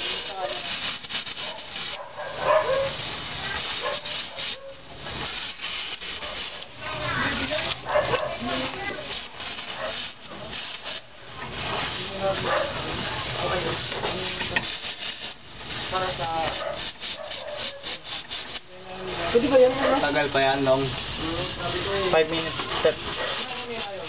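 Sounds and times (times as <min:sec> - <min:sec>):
welding torch hissing and crackling: 0:00.0 - 0:24.0.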